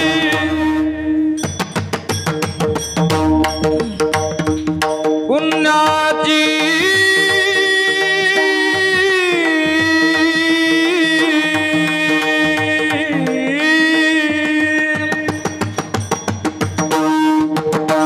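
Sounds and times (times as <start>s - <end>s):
drum strokes: 0.0s - 18.0s.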